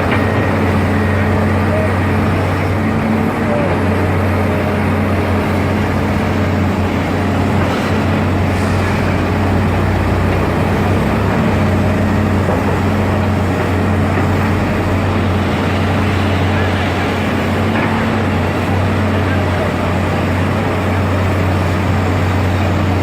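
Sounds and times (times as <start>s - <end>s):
excavator diesel engines running: 0.0s - 23.0s.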